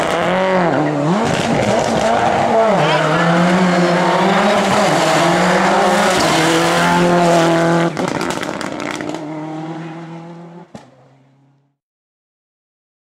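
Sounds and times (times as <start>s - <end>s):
rally car engine revving high: 0.0s - 11.8s.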